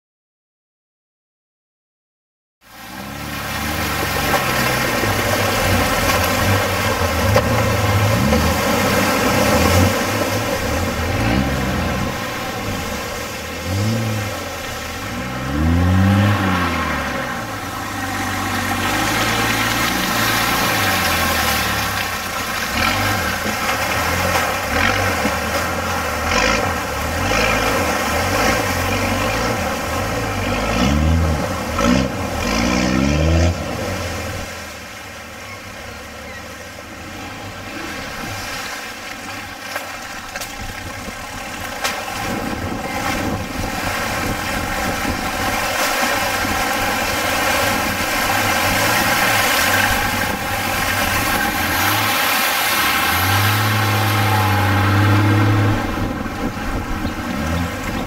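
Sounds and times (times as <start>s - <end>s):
engine revving: 2.8s - 34.7s, 42.1s - 58.0s.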